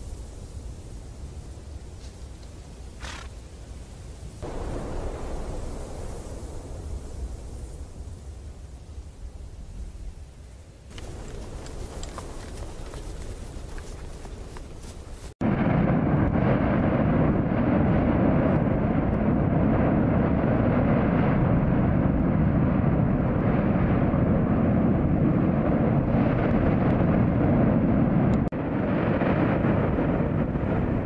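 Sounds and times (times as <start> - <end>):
deep rushing rumble: 4.4 - 10.3, 10.9 - 31.0.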